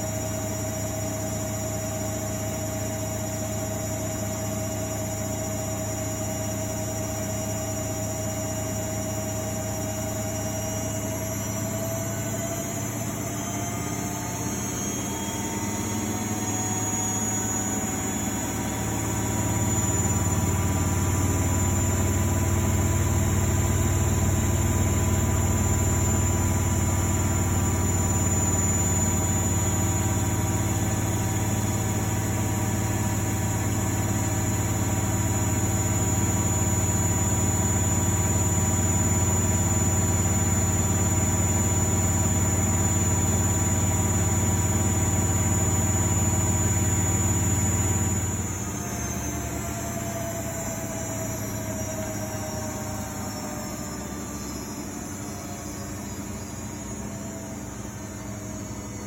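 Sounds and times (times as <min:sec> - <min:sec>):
washing machine motor whine: 0:00.0 - 0:59.0.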